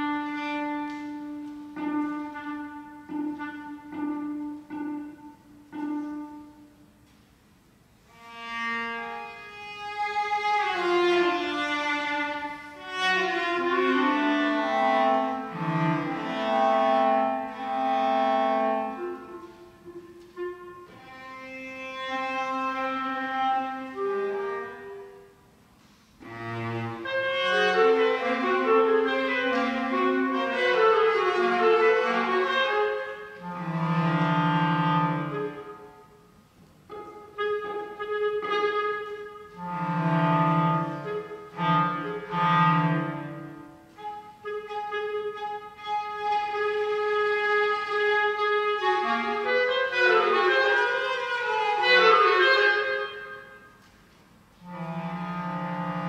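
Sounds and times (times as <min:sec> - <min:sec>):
bowed cello: 0:00.0 - 0:06.7, 0:08.0 - 0:25.3, 0:26.2 - 0:36.2, 0:36.9 - 0:53.8, 0:54.5 - 0:56.0
clarinet: 0:00.0 - 0:07.2, 0:07.9 - 0:56.0.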